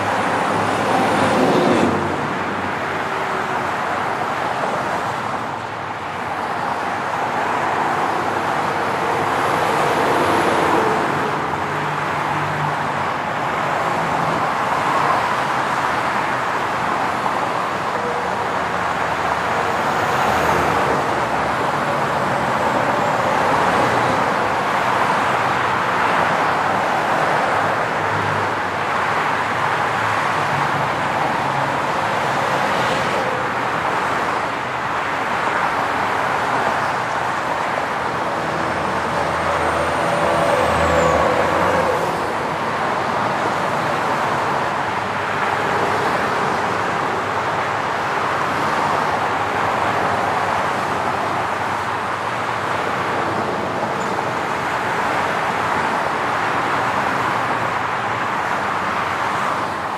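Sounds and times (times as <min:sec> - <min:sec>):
highway traffic noise: 0:00.0 - 0:59.9.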